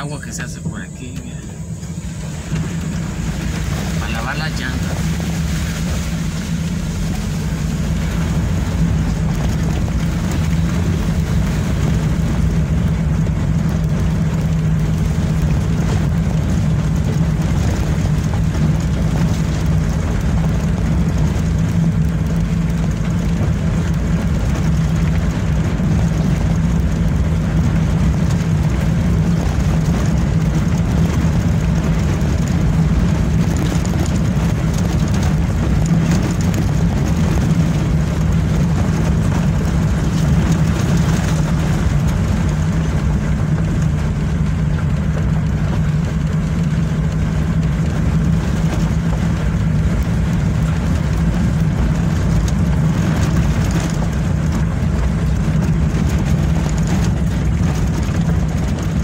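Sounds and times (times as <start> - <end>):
road noise: 0.0 - 59.0
vehicle engine droning: 0.0 - 59.0.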